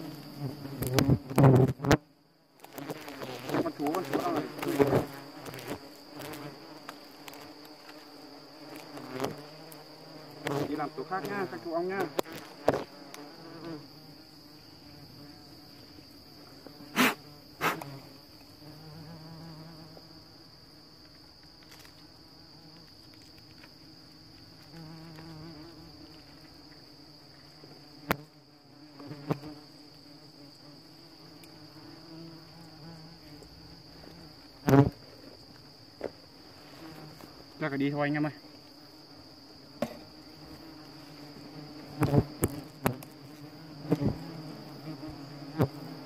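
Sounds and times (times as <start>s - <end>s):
hornets buzzing: 0.0s - 20.4s, 24.4s - 46.0s
high insect drone: 0.0s - 46.0s.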